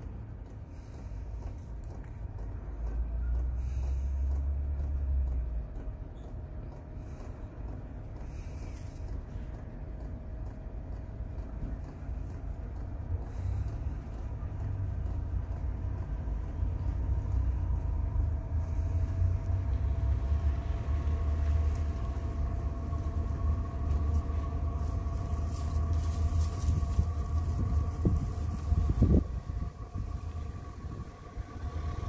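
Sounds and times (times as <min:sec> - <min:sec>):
heater combustion rumble: 0:00.0 - 0:32.0
blower motor whine: 0:00.8 - 0:32.0.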